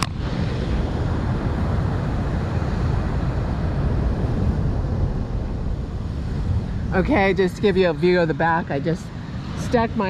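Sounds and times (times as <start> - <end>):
heavy ocean surf: 0.0 - 10.0
wind buffeting microphone: 0.0 - 10.0.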